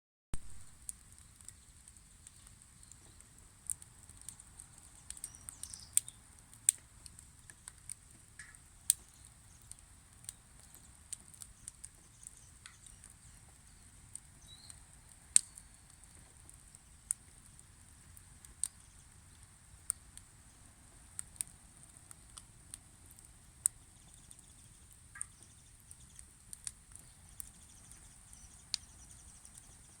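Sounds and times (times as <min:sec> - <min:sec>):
sharp pops from burning wood: 0:00.3 - 0:30.0
wood fire crackling: 0:00.4 - 0:30.0.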